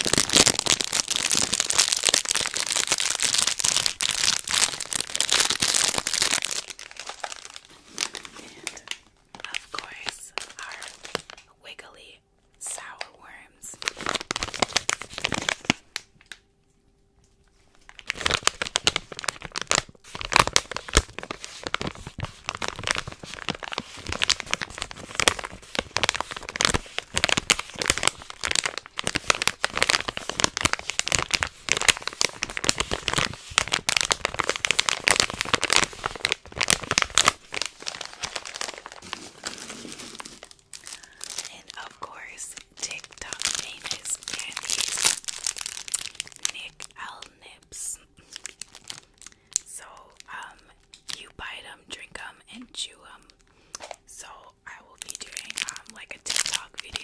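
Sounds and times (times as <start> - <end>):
plastic pouch crinkling: 0.0 - 11.5, 13.8 - 16.4, 17.6 - 51.6, 54.8 - 57.0.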